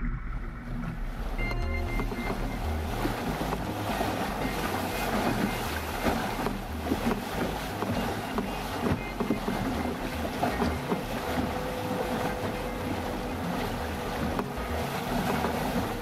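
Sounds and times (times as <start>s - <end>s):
water rushing along boat hull: 0.0s - 16.0s.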